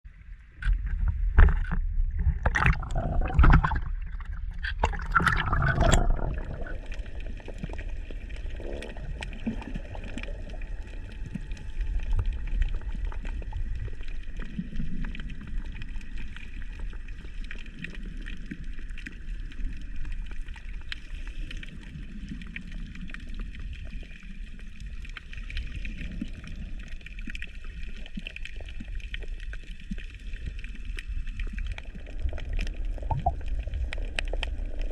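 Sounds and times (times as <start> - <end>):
low underwater rumble: 0.0 - 34.9
water splashing and bubbling: 0.1 - 34.9.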